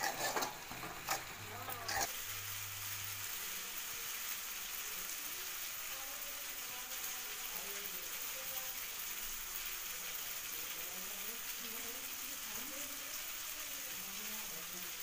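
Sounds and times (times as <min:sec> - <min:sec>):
faint indistinct voices: 0:00.0 - 0:02.2, 0:03.1 - 0:15.0.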